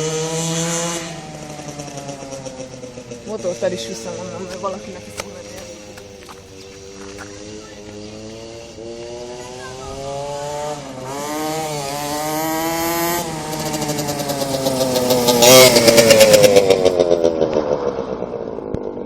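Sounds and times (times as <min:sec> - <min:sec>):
go-kart engine revving past: 0:00.0 - 0:19.0.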